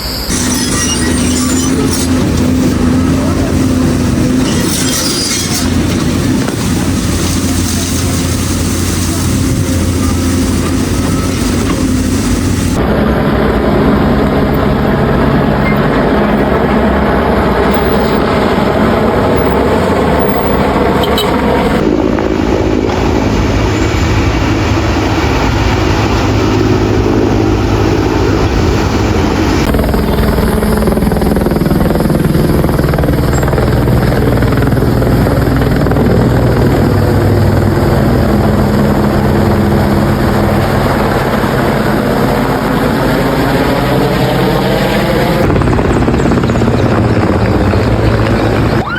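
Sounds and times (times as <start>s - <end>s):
helicopter rotor and engine drone: 0.0s - 48.9s.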